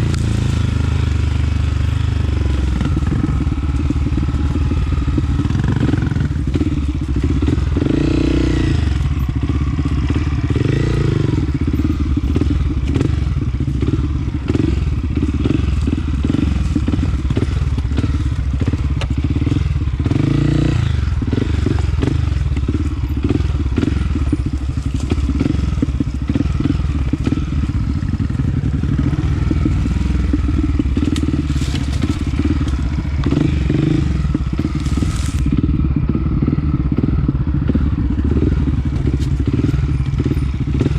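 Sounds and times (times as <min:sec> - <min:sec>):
bike clattering over rough ground: 0:00.0 - 0:35.6, 0:38.1 - 0:40.9
dirt bike engine revving: 0:00.0 - 0:40.9.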